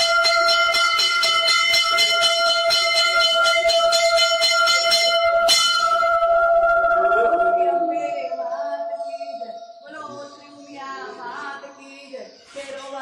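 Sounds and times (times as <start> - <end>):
temple bells ringing rapidly: 0.0 - 11.3.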